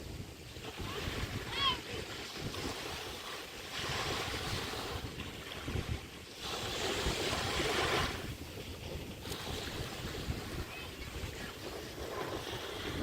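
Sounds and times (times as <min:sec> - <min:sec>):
waves washing on beach: 0:00.0 - 0:13.0
wind buffeting microphone: 0:00.0 - 0:13.0.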